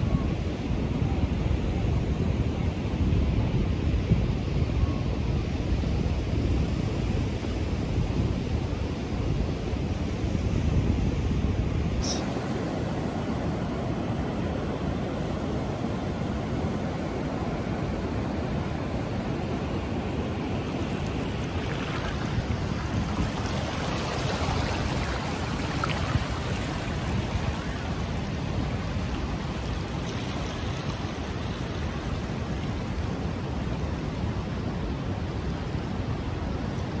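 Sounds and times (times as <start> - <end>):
surf washing across sand: 0.0 - 37.0.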